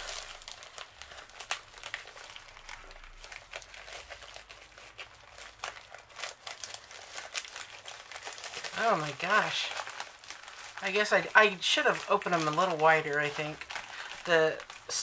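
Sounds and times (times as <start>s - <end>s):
plastic envelope crinkling: 0.0s - 15.0s.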